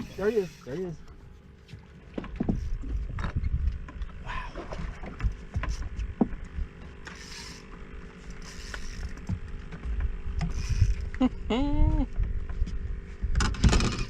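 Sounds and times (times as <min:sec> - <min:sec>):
knocks and rumbling on boat: 0:00.0 - 0:14.0.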